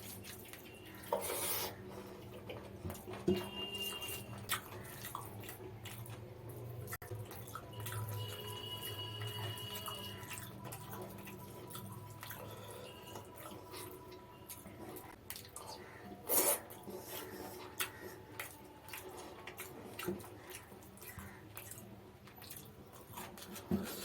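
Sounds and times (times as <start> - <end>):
wet chewing and mouth smacking: 0.0 - 24.0.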